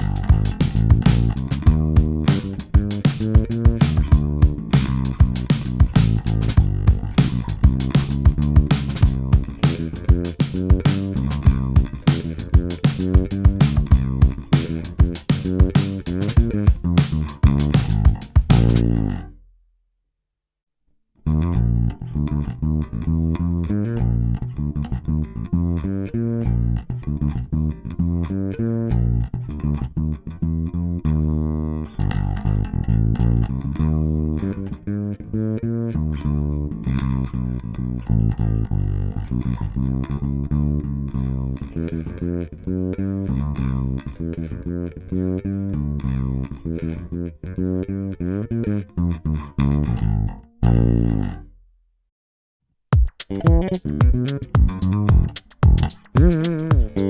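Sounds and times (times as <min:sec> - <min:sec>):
fretless bass notes: 0:00.0 - 0:19.6, 0:21.2 - 0:51.8, 0:53.0 - 0:57.0.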